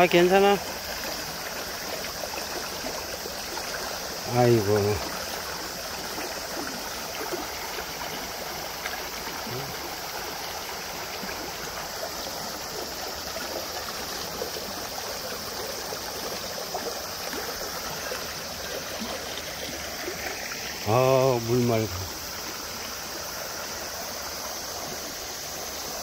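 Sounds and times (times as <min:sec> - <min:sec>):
stream flowing over rocks: 0:00.0 - 0:26.0.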